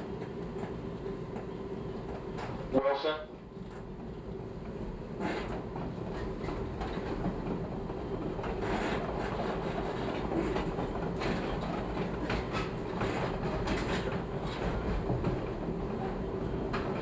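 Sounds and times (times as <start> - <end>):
train wheel rumble: 0.0 - 17.0.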